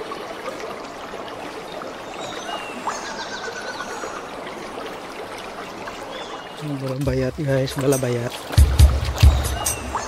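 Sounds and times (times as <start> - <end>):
water sloshing from wading: 0.0 - 10.0.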